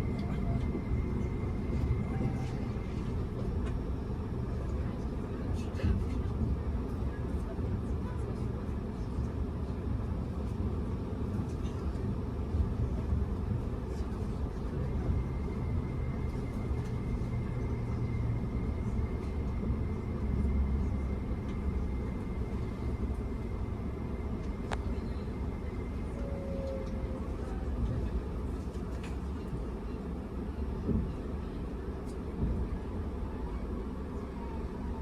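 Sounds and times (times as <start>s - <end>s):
train running rumble: 0.0s - 35.0s.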